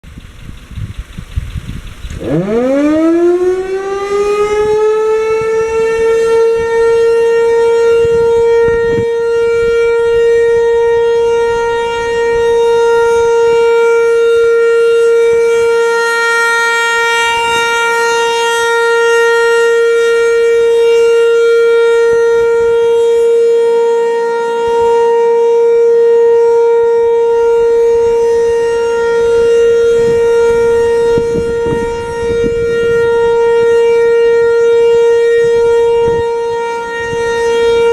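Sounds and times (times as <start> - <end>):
warning siren steady tone: 0.0 - 37.9.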